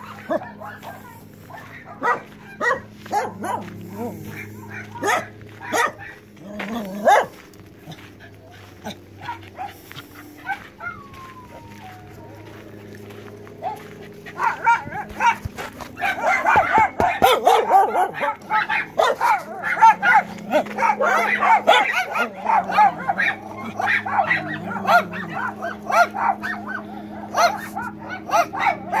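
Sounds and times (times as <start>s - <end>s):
dogs barking and yelping: 0.0s - 29.0s
faint low hum: 0.0s - 29.0s.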